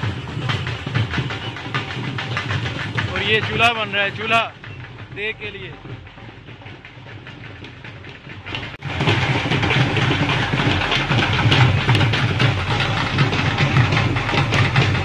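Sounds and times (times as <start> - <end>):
dhol drums beating fast rhythm: 0.0 - 15.0
outdoor background noise: 0.0 - 15.0.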